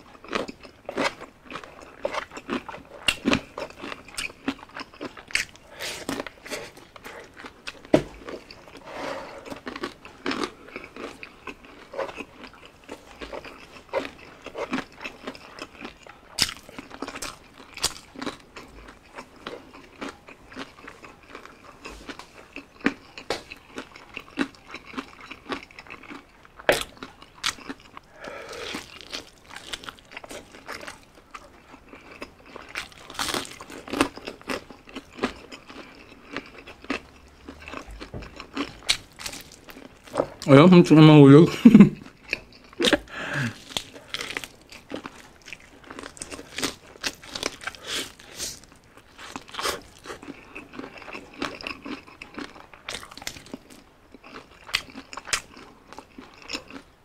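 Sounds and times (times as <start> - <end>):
chewing crispy fried chicken: 0.0 - 57.0.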